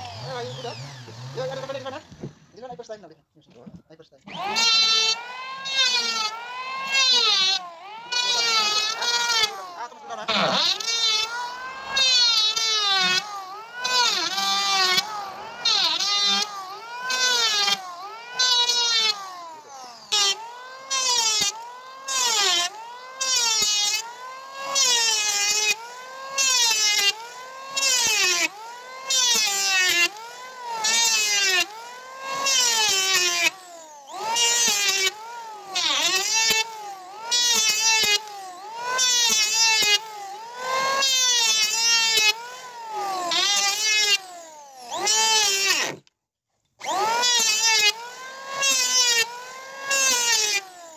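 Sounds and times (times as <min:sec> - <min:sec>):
electric wood planer motor whine: 0:00.0 - 0:02.8, 0:03.6 - 0:46.2, 0:46.8 - 0:50.9
planer blades cutting wood: 0:00.0 - 0:50.9.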